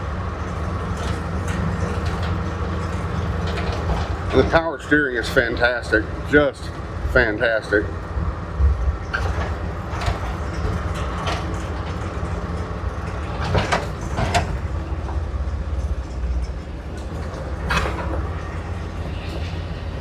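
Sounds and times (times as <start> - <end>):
truck clunks and rattles: 0.0 - 20.0
truck engine rumbling: 0.0 - 20.0.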